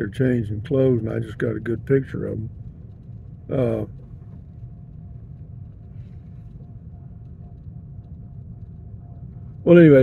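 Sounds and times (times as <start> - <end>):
vehicle driving on gravel road: 0.0 - 10.0.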